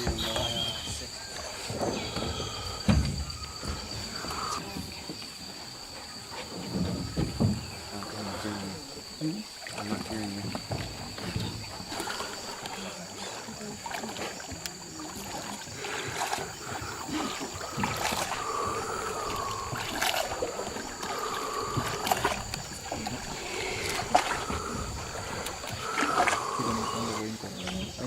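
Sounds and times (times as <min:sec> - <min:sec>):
paddle knocking against hull: 0:00.0 - 0:05.2, 0:06.3 - 0:27.0
high insect drone: 0:00.0 - 0:28.0
paddle splashes: 0:00.0 - 0:28.0.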